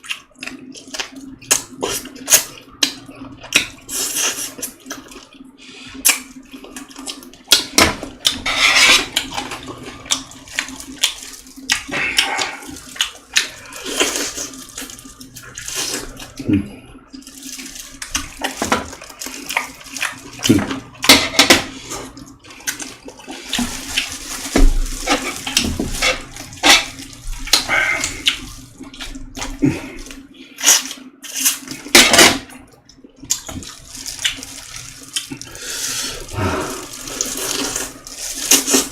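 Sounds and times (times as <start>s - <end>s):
wet chewing of chicken: 0.0s - 21.1s, 21.7s - 31.9s, 32.6s - 38.9s.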